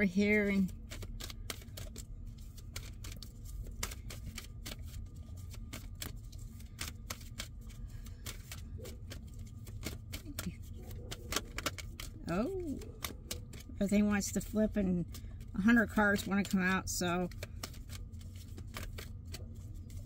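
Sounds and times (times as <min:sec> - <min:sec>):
low steady hum: 0:00.0 - 0:20.0
cards being shuffled: 0:00.2 - 0:20.0.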